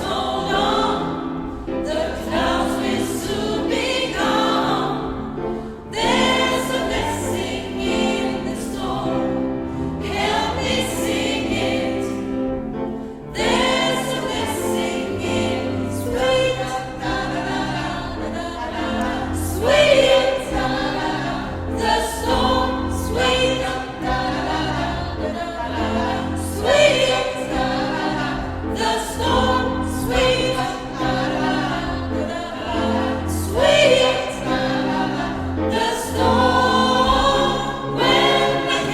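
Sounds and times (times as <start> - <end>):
gospel choir singing: 0.0 - 38.9.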